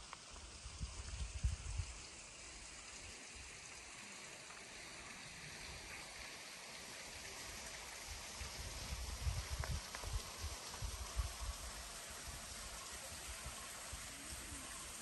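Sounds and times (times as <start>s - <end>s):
soft outdoor hiss: 0.0s - 15.0s.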